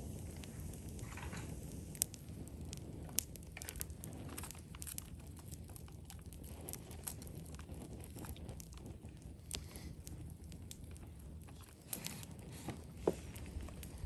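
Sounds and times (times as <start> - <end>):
campfire crackling and popping: 0.0 - 14.0
low fire rumble: 0.0 - 14.0.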